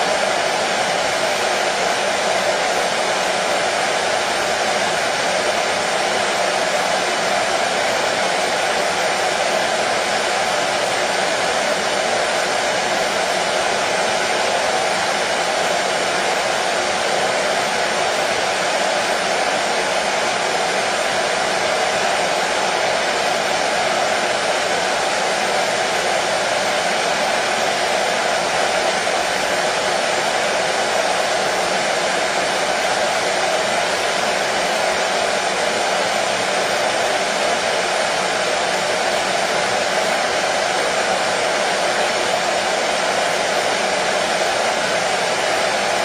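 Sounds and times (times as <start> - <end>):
hair dryer running: 0.0 - 46.0.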